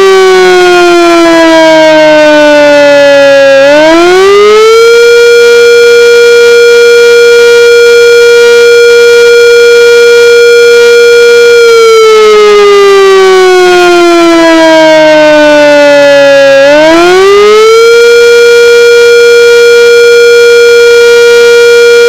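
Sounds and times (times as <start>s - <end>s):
distorted fire siren: 0.0s - 22.0s.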